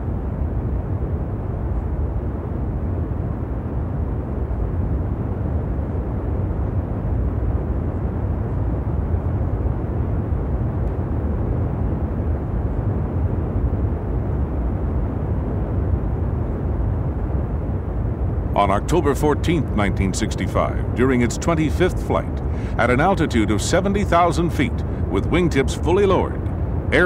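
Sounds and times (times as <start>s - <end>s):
jet engines roaring: 4.3s - 27.0s.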